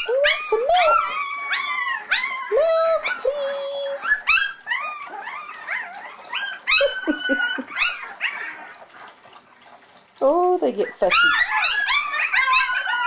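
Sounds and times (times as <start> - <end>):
puppies whining and squealing: 0.0 - 13.0.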